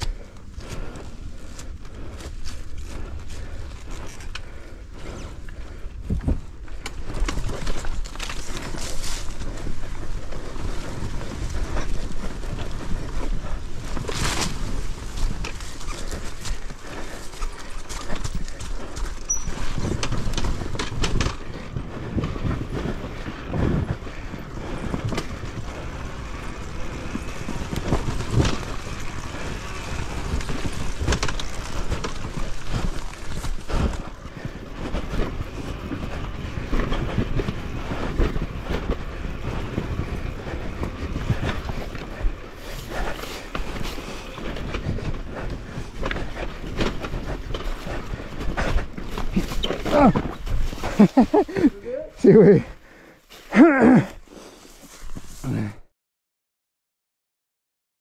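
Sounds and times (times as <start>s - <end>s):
dirt bike engine: 0.0s - 52.8s
bike rattling over bumps: 0.0s - 55.4s.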